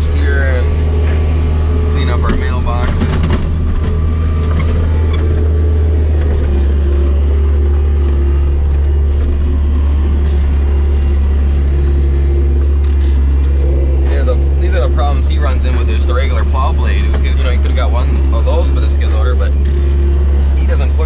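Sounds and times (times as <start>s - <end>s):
loader diesel engine droning: 0.0s - 21.0s.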